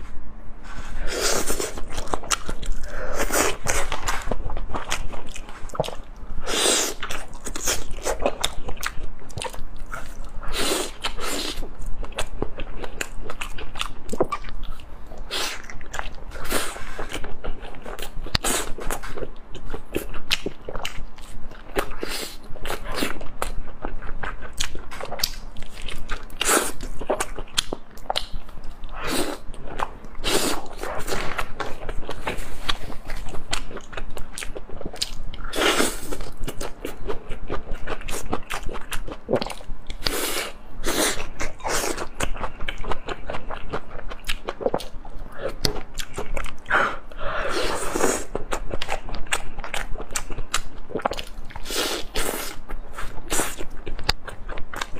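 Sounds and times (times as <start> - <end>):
person chewing crunchy food: 0.7 - 54.9.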